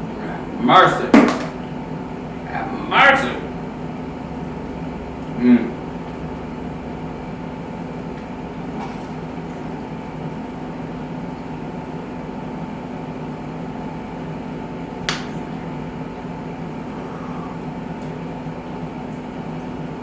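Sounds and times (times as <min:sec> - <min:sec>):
room machinery humming: 0:00.0 - 0:20.0.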